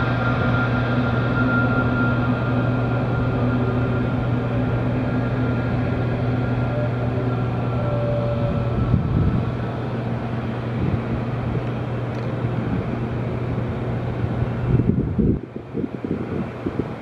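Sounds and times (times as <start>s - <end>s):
faint engine whine: 0.0s - 17.0s
jet engines rumbling: 0.0s - 17.0s.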